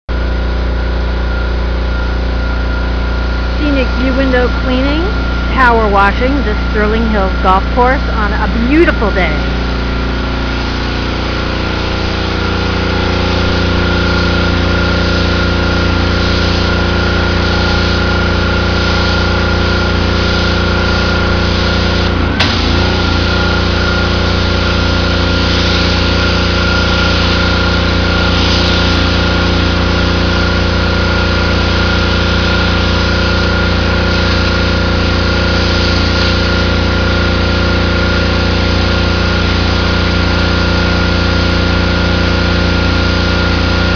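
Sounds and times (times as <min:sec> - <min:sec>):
pressure washer engine running: 0:00.0 - 0:43.9
water spraying onto concrete: 0:08.2 - 0:43.9.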